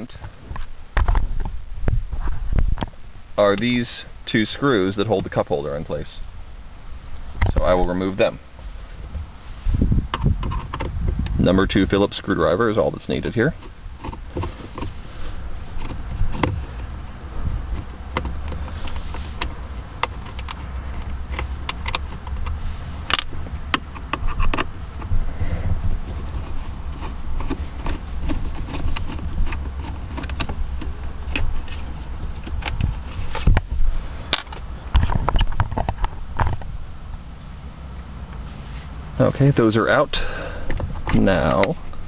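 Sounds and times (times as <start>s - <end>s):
handling rumble: 0.0s - 42.0s.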